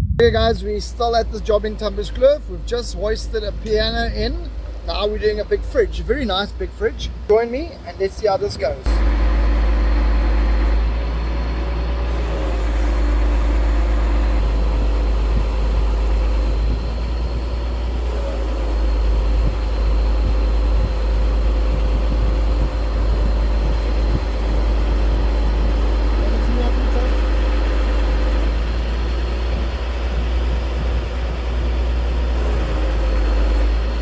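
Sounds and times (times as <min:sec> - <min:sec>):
crane engine rumbling: 0:00.0 - 0:34.0.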